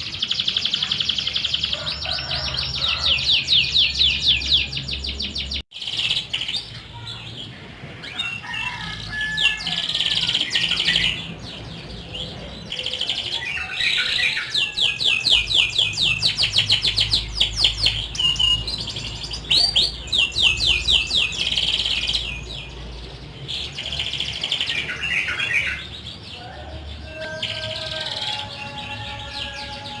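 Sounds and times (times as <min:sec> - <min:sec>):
canary singing: 0:00.0 - 0:07.4, 0:08.0 - 0:30.0.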